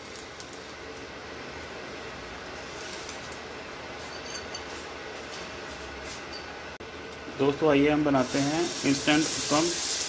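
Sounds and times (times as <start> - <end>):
cooling fan noise: 0.0 - 10.0.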